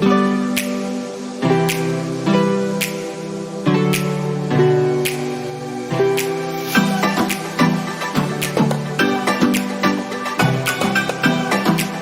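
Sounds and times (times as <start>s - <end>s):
light beat: 0.5s - 12.0s.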